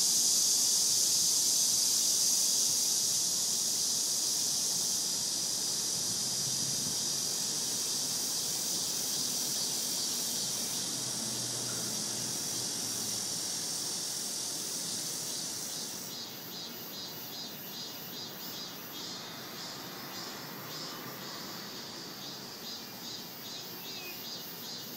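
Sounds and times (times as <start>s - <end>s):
cicadas singing: 0.0s - 24.9s.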